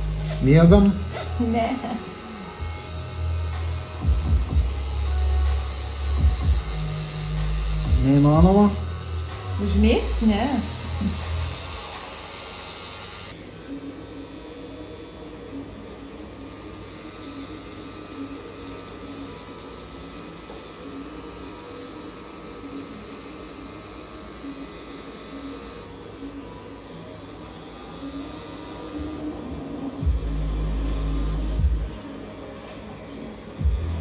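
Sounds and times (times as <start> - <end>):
tattoo machine buzzing: 0.0 - 34.0.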